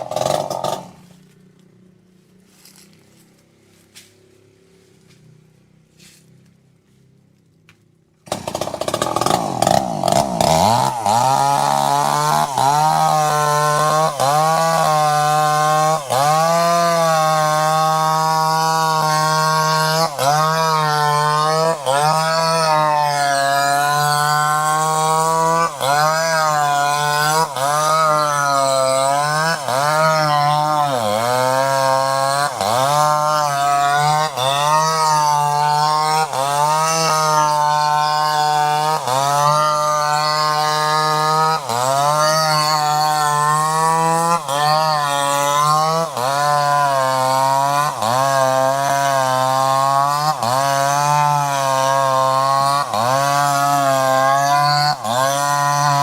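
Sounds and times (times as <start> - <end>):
chainsaw engine at high revs: 0.0 - 7.0, 7.7 - 56.0.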